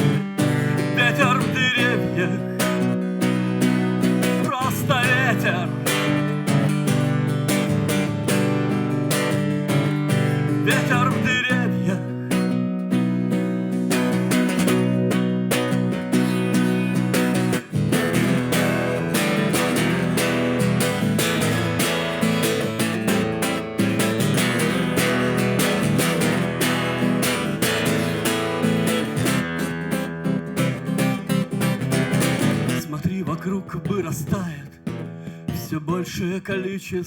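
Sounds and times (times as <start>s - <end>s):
strummed acoustic guitar: 0.0s - 37.0s.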